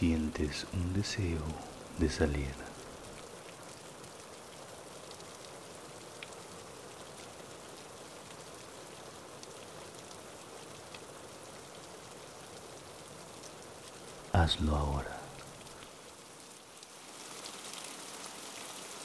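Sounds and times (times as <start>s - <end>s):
raindrops ticking: 0.0s - 16.9s
steady rain falling: 0.0s - 19.0s.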